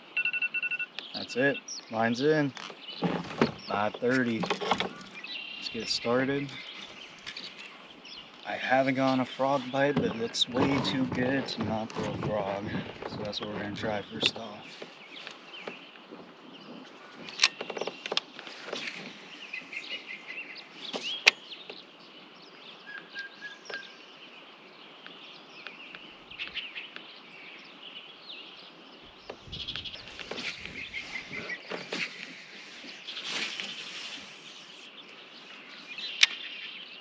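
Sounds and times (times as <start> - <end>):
small birds chirping: 0.7 - 37.0.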